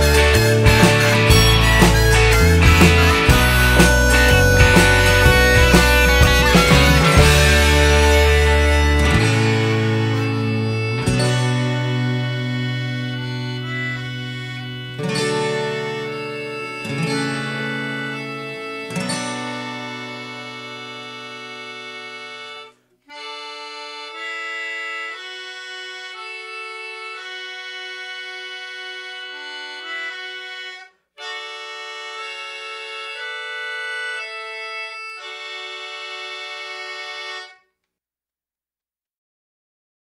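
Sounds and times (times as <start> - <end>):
accordion chords: 0.0 - 37.7.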